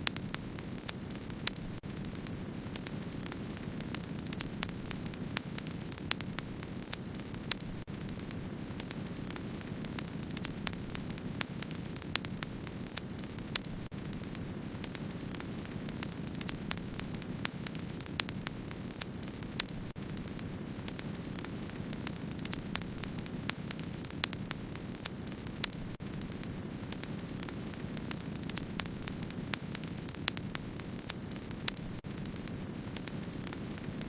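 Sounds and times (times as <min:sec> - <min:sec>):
fire crackles and pops: 0:00.0 - 0:34.0
wood fire burning: 0:00.0 - 0:34.0.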